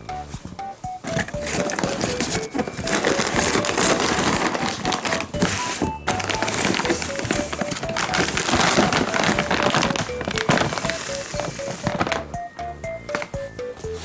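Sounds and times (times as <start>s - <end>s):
background music of plucked notes: 0.0s - 14.0s
plastic bag crinkling: 1.1s - 12.3s.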